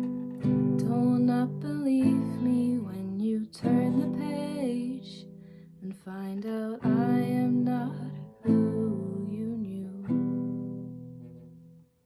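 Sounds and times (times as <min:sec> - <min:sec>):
acoustic guitar strumming chords: 0:00.0 - 0:05.6, 0:06.4 - 0:11.6.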